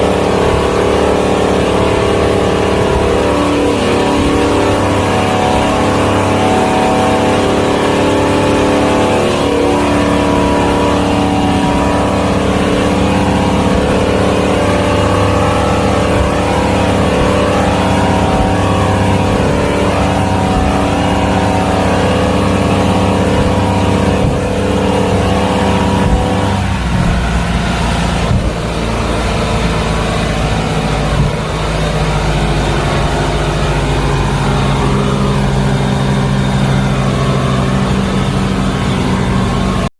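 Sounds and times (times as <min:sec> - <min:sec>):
motorboat engine running: 0:00.0 - 0:39.9
rushing noise: 0:00.0 - 0:39.9.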